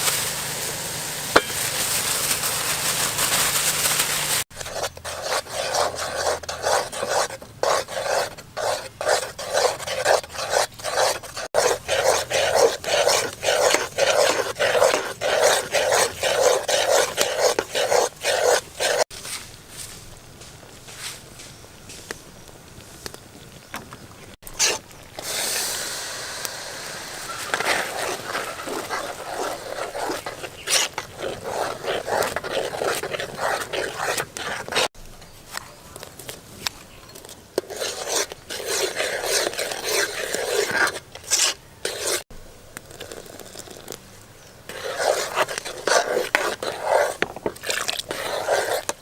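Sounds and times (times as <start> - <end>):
scraping and rubbing vegetables: 0.0 - 23.1, 24.2 - 42.3, 42.9 - 44.1, 44.7 - 49.0.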